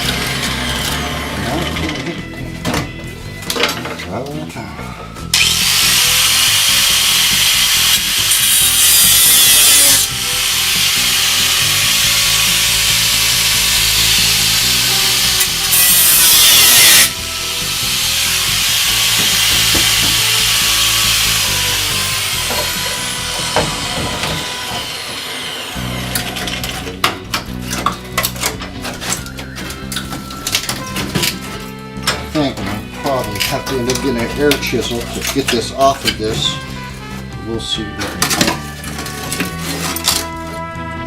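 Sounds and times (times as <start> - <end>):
angle grinder cutting steel: 0.0 - 2.2, 5.3 - 37.0, 37.8 - 40.4.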